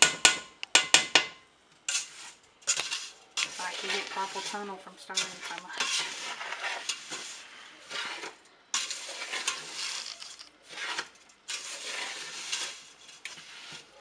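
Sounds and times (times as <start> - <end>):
utensil scraping metal pot: 1.8 - 14.0.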